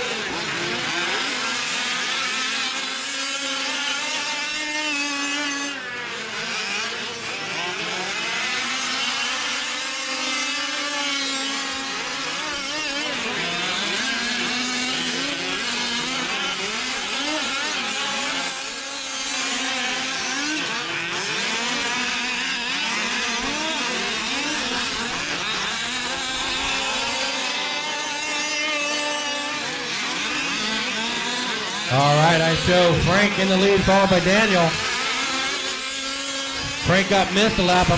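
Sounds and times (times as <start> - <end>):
small two-stroke engines buzzing: 0.0 - 37.9.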